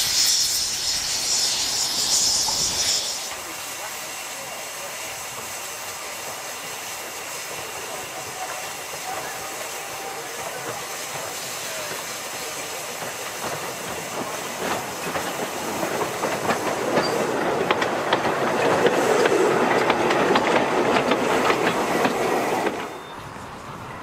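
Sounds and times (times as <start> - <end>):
steam hissing: 0.0 - 23.2
train wheels clicking over rail joints: 0.0 - 23.2.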